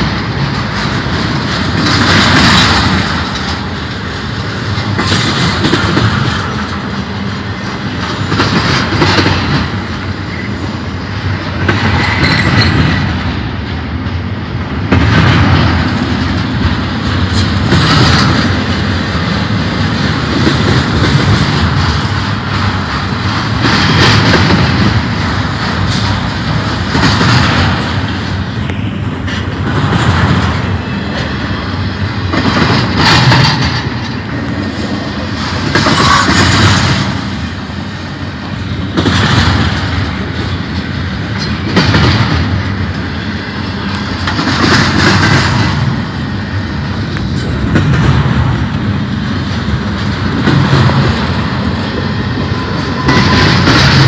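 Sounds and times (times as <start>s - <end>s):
freight train rumble: 0.0s - 54.0s
steel wheels clacking on rails: 0.0s - 54.0s.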